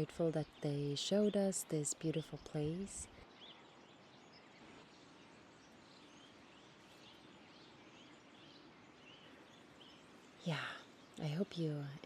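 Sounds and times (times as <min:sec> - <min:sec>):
faint bird chirping: 0:00.0 - 0:12.0
steady outdoor hiss: 0:00.0 - 0:12.0.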